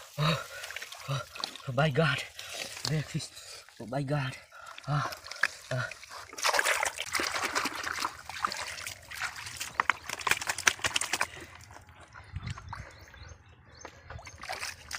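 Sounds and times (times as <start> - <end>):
water splashing and trickling: 0.0 - 14.9.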